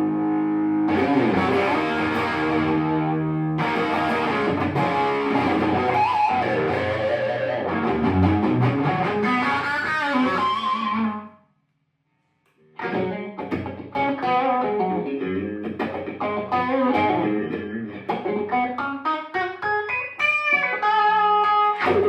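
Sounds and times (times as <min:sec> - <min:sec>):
electric guitar melody: 0:00.0 - 0:11.4, 0:12.7 - 0:22.0.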